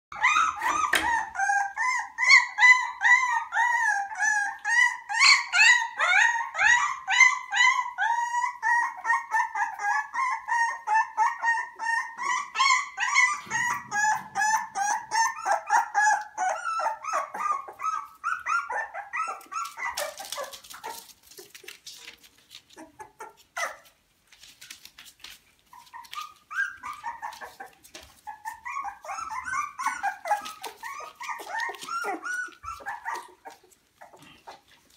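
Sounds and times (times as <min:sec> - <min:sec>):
puppies whining and yelping: 0:00.1 - 0:34.9.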